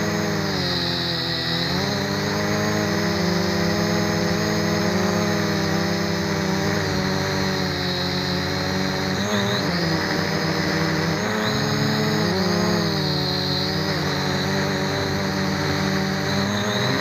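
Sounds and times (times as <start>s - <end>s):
quadcopter propellers whirring: 0.0s - 17.0s.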